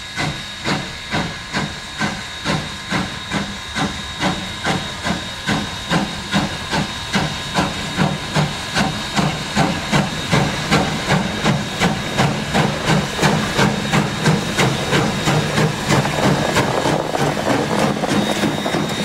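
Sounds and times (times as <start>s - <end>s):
steam hissing: 0.0s - 19.0s
steam locomotive chuffing: 0.0s - 19.0s.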